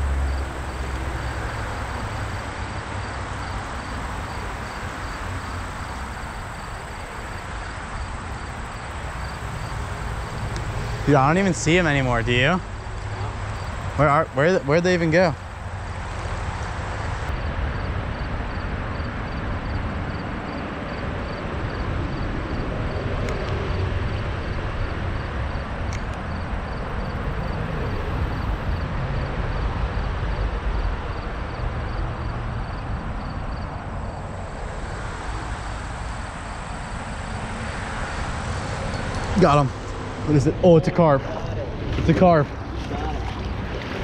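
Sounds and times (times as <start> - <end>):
highway traffic rumble: 0.0 - 44.0.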